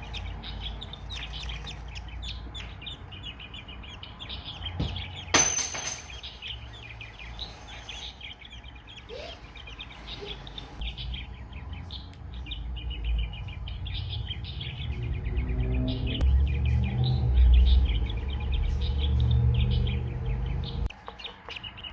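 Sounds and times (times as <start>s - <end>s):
budgies chirping and chattering: 0.0s - 5.4s, 6.1s - 21.9s.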